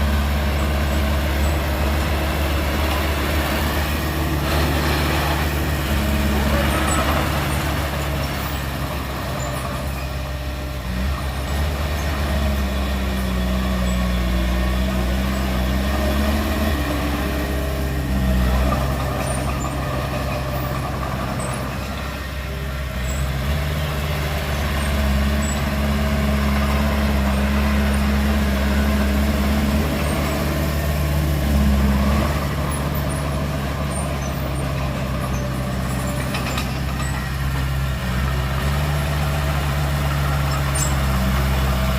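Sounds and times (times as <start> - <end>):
heavy diesel engines revving: 0.0 - 41.9.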